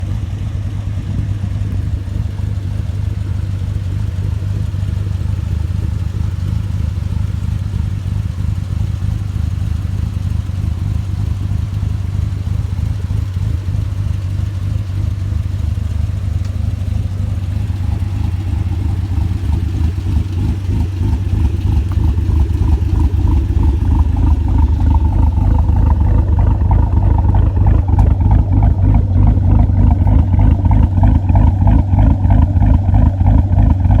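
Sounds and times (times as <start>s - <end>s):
car engine idling with lumpy beat: 0.0s - 34.0s.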